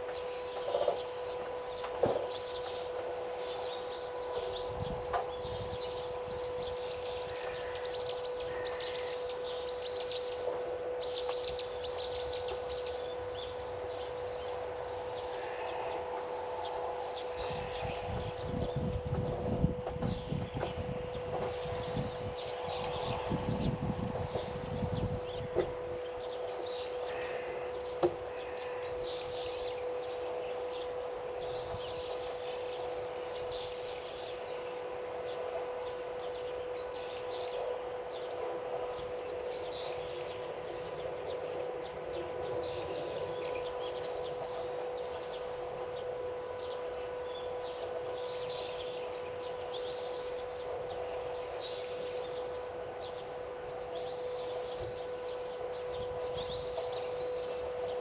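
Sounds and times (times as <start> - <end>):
small birds chirping: 0.0 - 58.0
steady low hum: 0.0 - 58.0.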